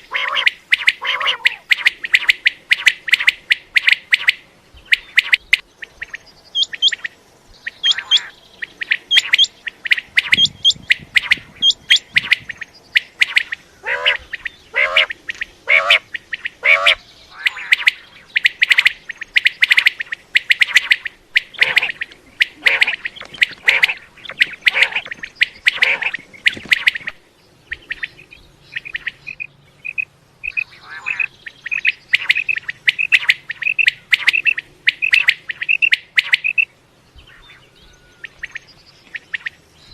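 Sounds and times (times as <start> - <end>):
quail calling: 0.0 - 36.7.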